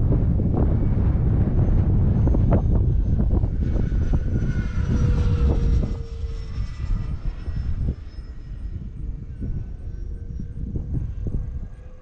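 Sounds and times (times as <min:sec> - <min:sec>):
electric ducted fans whining: 0:00.0 - 0:12.0
wind buffeting microphone: 0:00.0 - 0:12.0.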